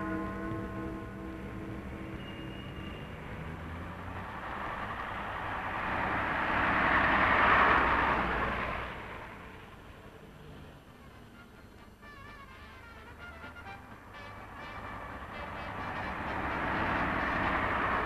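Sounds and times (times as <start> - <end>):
bus driving past: 0.0 - 18.0.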